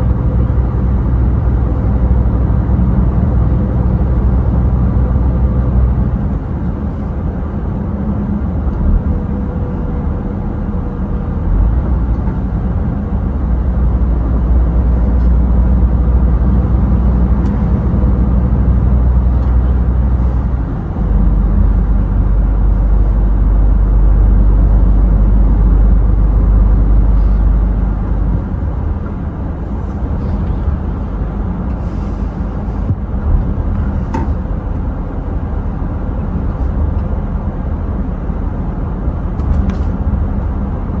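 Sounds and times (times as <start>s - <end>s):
truck engine and road noise: 0.0s - 41.0s.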